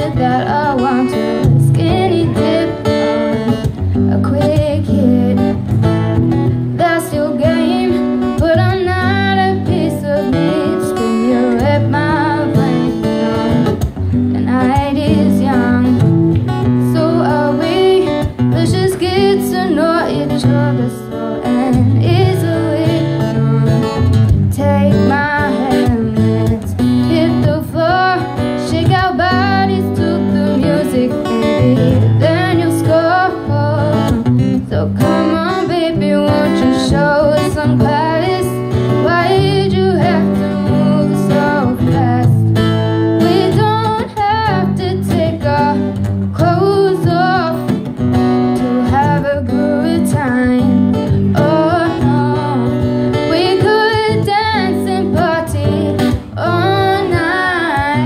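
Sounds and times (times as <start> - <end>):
acoustic guitar: 0.0 - 58.0
woman singing into a microphone: 0.0 - 58.0.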